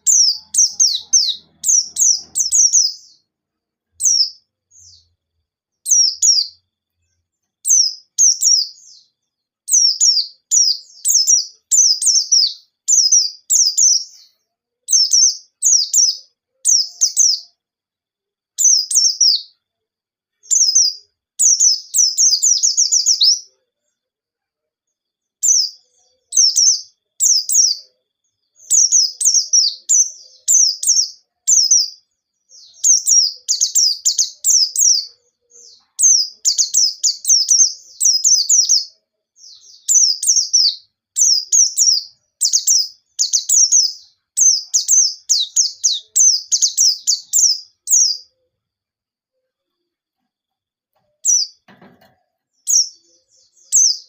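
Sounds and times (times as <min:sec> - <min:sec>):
bird chirping: 0:00.0 - 0:17.8, 0:18.5 - 0:24.2, 0:24.8 - 0:54.0.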